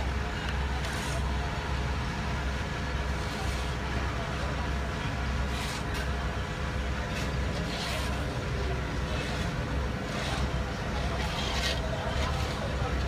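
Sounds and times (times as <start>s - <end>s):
rakes scraping over asphalt: 0.4s - 1.6s, 3.0s - 13.0s.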